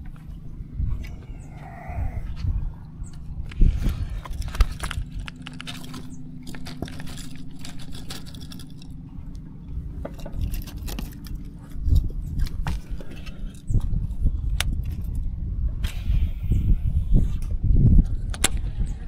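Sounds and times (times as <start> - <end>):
faint steady hum: 0.0 - 19.0
low steady rumble: 0.0 - 19.0.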